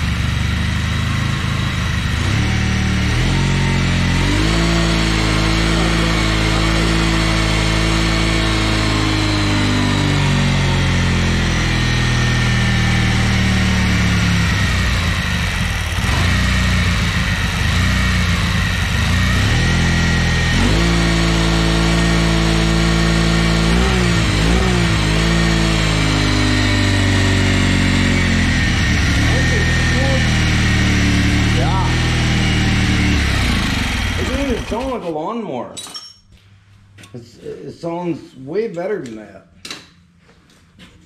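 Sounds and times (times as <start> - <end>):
lawn tractor engine running unsteadily: 0.0 - 35.0.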